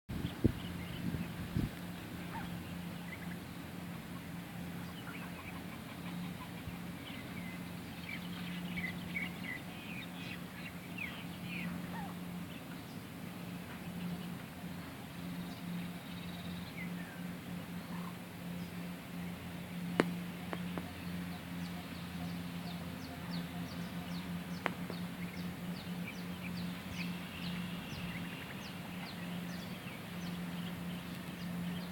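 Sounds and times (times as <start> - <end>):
birds chirping: 0.1 - 31.9
steady low hum: 0.1 - 31.9.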